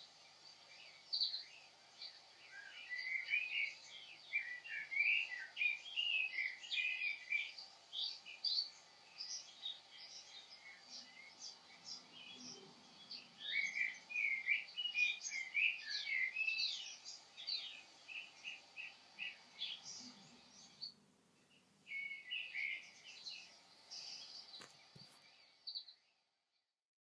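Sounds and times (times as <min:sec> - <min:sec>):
songbirds singing and chirping: 0:00.0 - 0:26.4.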